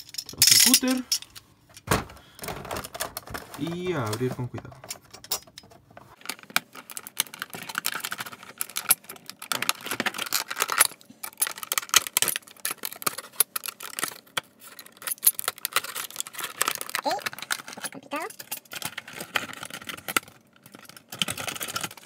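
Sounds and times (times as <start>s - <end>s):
stiff plastic crackling: 1.8s - 4.8s, 5.8s - 22.0s.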